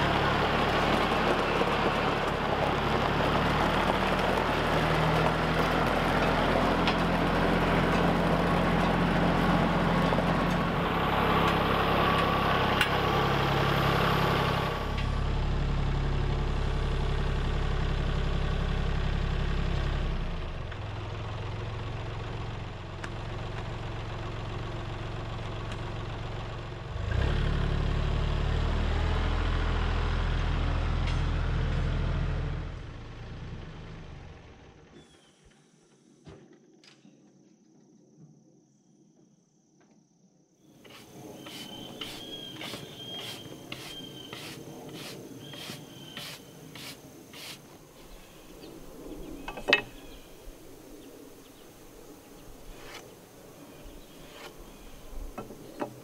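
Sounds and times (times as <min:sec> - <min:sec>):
tractor diesel engine running: 0:00.0 - 0:35.0, 0:40.8 - 0:56.0.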